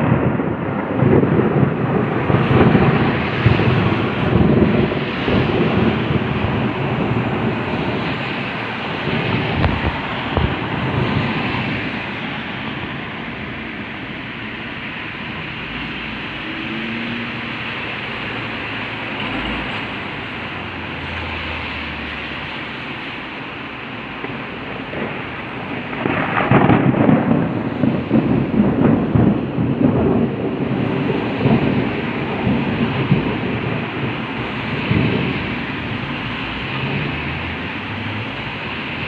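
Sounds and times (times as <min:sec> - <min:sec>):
steady rain: 0:00.0 - 0:39.0
thunderclap rumbling: 0:00.0 - 0:39.0.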